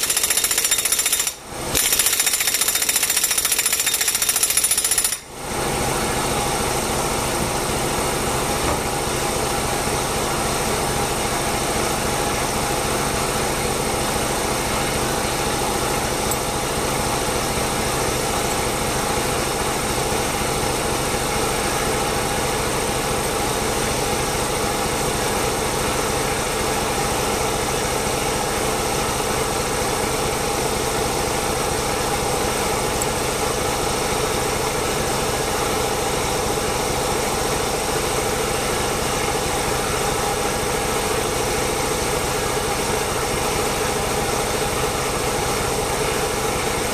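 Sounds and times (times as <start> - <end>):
air compressor running: 0.0 - 46.9.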